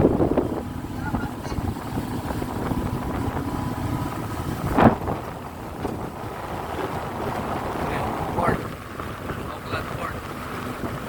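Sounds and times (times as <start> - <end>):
motorboat running: 0.0 - 11.0
wind buffeting microphone: 0.0 - 11.0.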